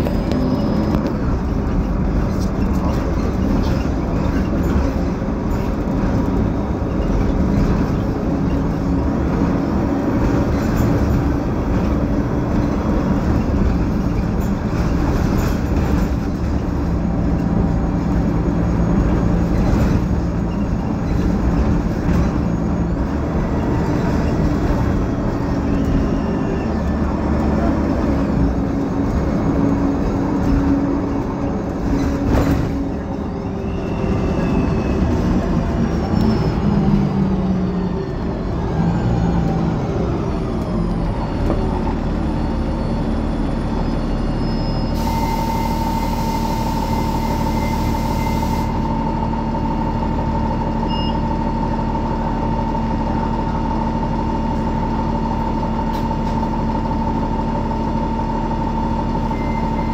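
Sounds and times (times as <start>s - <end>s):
bus engine droning with whine: 0.0s - 59.9s.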